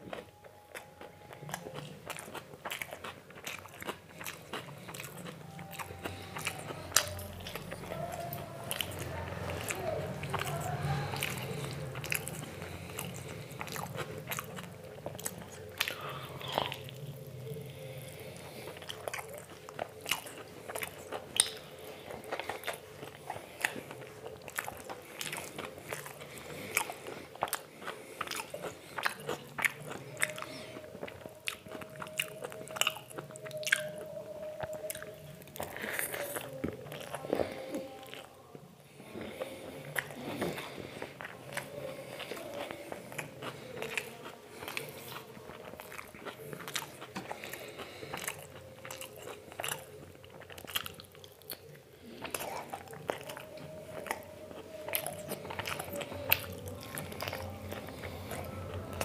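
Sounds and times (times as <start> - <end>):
person chewing and crunching: 0.0 - 59.0.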